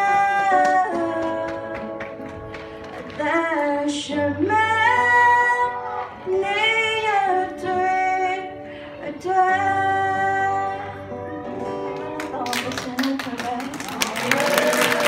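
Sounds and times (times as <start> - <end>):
woman singing slow song: 0.0 - 2.2, 3.0 - 15.0
acoustic guitar: 0.0 - 15.0.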